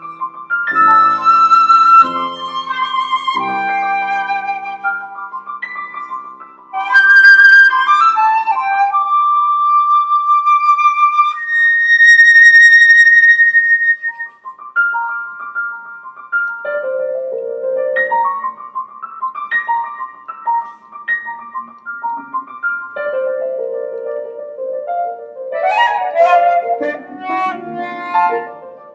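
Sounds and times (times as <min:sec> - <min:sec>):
flute: 0:00.0 - 0:15.8, 0:19.6 - 0:28.9
piano: 0:00.0 - 0:28.9.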